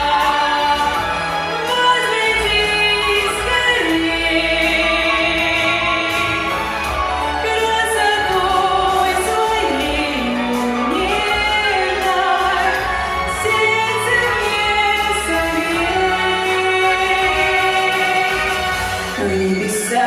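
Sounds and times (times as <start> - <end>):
instrumental accompaniment with bass: 0.0 - 20.0
person singing: 0.0 - 20.0.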